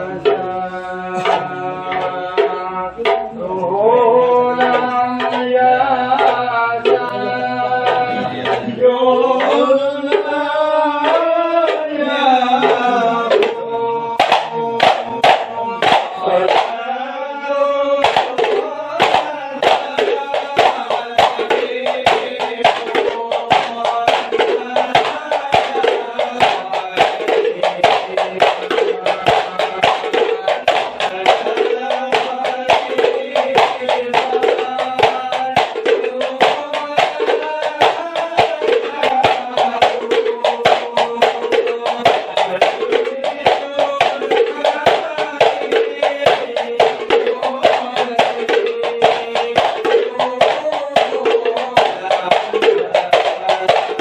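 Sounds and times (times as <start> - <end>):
frame drums beating: 0.0 - 17.0, 17.8 - 54.0
men singing together: 0.0 - 54.0.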